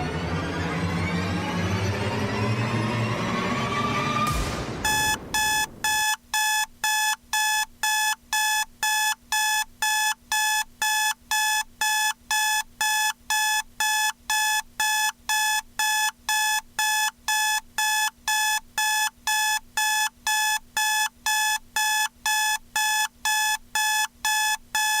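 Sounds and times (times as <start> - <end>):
high-pitched alarm beeps: 4.3 - 25.0.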